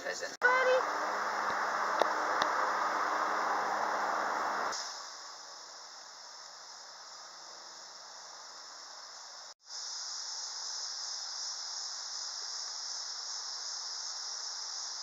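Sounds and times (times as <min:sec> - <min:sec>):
insect chorus drone: 0:00.4 - 0:15.0.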